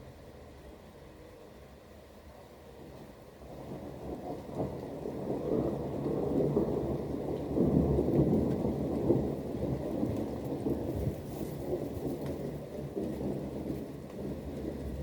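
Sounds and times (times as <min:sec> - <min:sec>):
steady rain: 0:00.0 - 0:15.0
thunder rumbling: 0:02.8 - 0:15.0.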